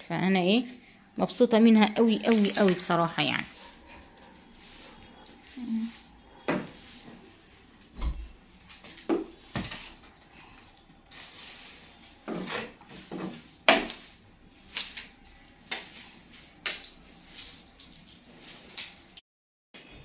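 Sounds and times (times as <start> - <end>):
objects scraping on tiled floor: 2.0 - 7.9, 8.7 - 19.2.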